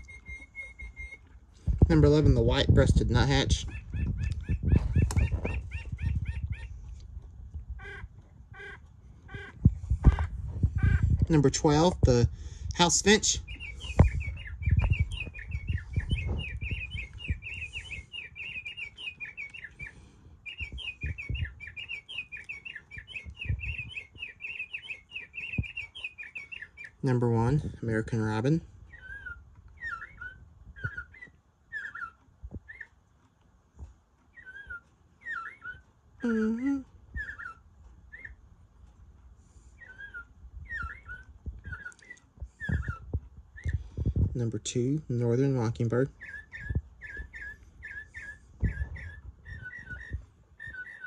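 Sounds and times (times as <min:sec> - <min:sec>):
clock playing warbled bird chirps: 0:00.0 - 0:01.4, 0:02.0 - 0:06.8, 0:07.7 - 0:12.0, 0:12.8 - 0:33.4, 0:34.0 - 0:51.0.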